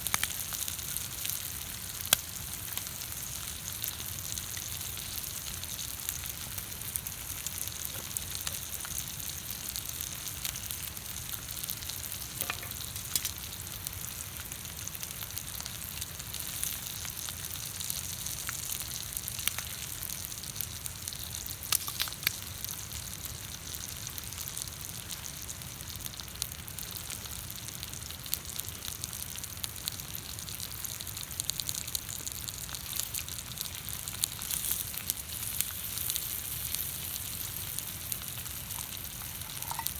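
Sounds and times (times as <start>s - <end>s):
campfire pops and crackles: 0.0s - 22.9s, 25.2s - 39.9s
food sizzling on a griddle: 0.0s - 39.9s.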